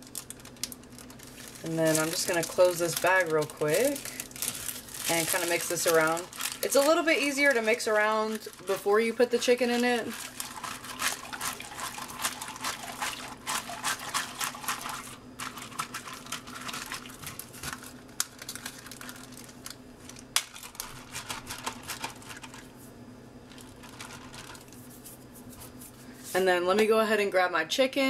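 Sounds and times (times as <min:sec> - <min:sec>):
plastic bag crinkling: 0:00.0 - 0:22.7, 0:23.5 - 0:25.0.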